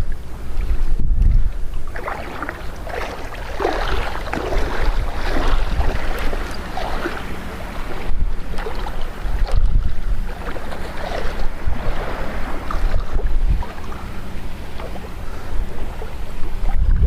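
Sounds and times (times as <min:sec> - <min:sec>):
water splashing: 0:00.0 - 0:17.0
wind buffeting microphone: 0:00.0 - 0:17.0.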